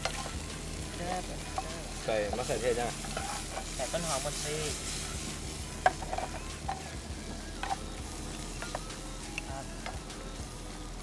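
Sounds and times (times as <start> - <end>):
light sizzle: 0.0 - 11.0
spatula scraping frying pan: 1.2 - 10.1.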